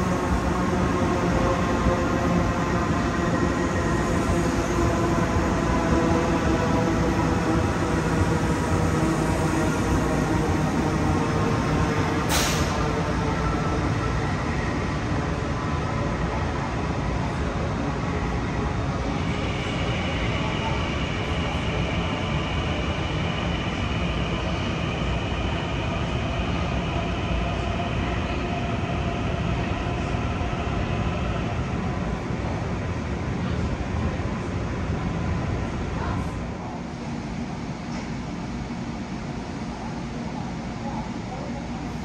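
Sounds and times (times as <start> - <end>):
electric train rumbling: 0.0 - 42.0.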